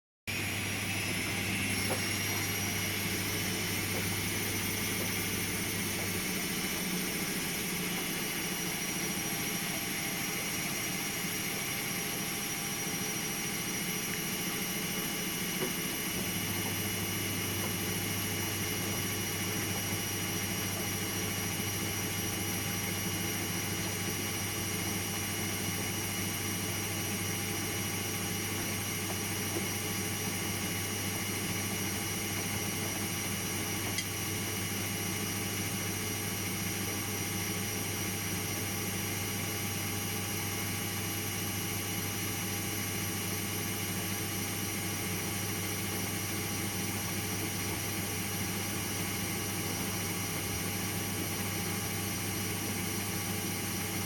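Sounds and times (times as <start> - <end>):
washing machine hum: 0.3 - 54.0.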